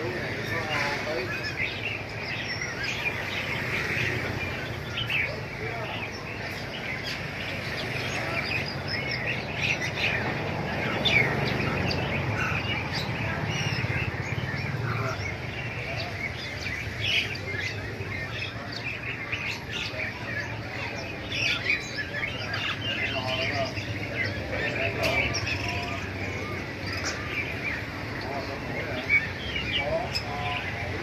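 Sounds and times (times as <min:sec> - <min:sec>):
caged songbirds chirping: 0:00.0 - 0:31.0.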